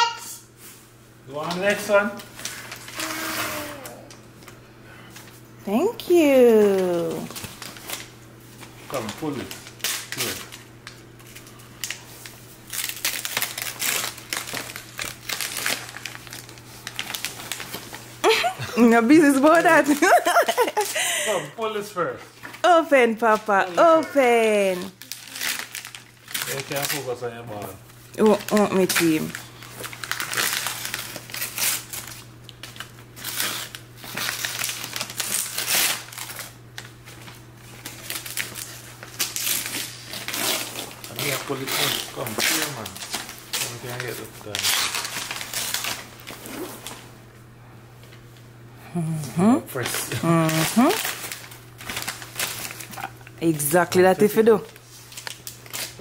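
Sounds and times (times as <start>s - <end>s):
wrapping paper tearing and crumpling: 0.6s - 4.2s, 6.3s - 47.1s, 49.7s - 53.3s, 54.2s - 56.0s.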